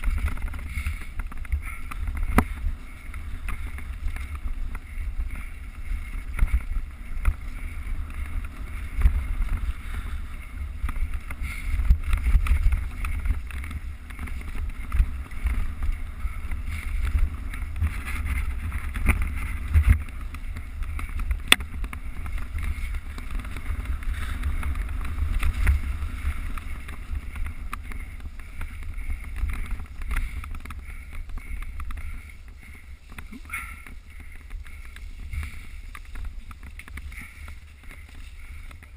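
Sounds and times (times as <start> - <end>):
bike rattling over rough ground: 0.0 - 38.9
wind buffeting microphone: 0.0 - 38.9.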